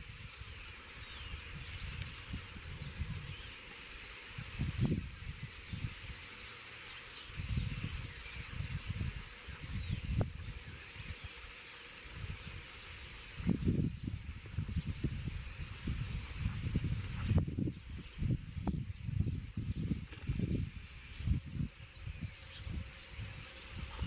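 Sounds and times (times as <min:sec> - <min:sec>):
starlings chattering and whistling: 0:00.0 - 0:24.0
wind gusts: 0:00.0 - 0:24.0.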